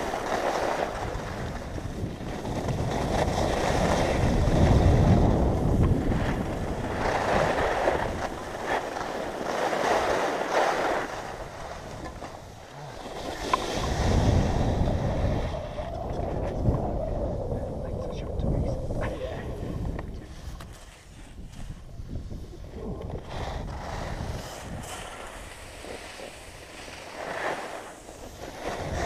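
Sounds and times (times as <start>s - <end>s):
skis hissing over snow: 0.0s - 15.8s, 20.2s - 29.0s
wind on microphone: 0.0s - 29.0s.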